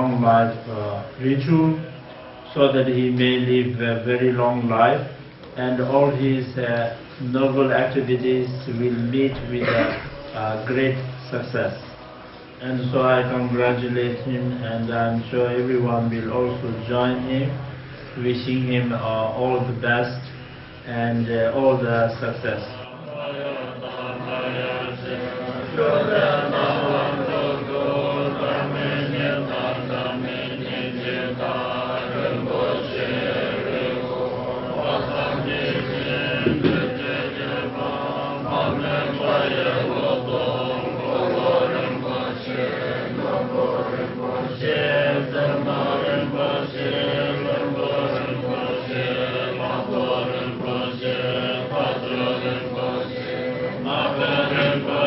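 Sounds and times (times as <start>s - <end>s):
monks chanting together: 0.0s - 55.0s.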